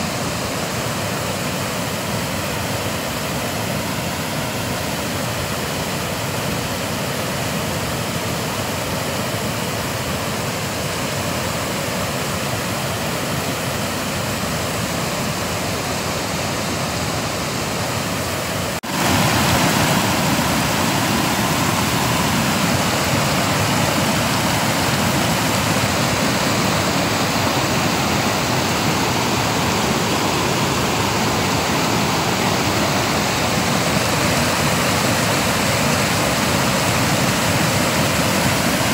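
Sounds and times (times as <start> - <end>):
floodwater rushing over rocks: 0.0 - 38.9.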